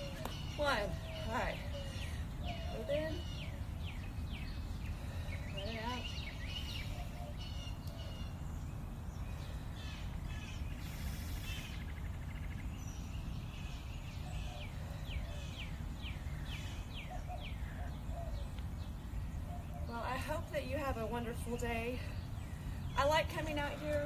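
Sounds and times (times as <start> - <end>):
low outdoor rumble: 0.0 - 24.0
songbirds chirping: 0.0 - 24.0.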